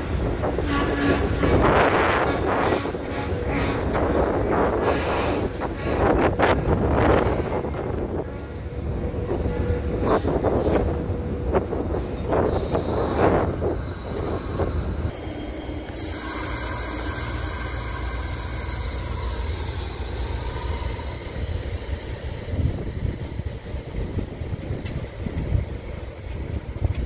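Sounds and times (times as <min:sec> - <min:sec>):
high train whine: 0:00.0 - 0:27.0
train rumble: 0:00.0 - 0:27.0.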